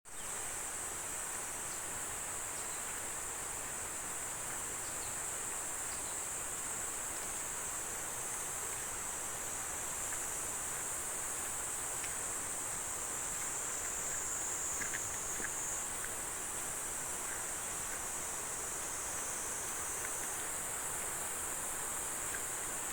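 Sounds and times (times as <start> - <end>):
insects droning: 0.1 - 22.9
stream rushing: 0.6 - 22.9.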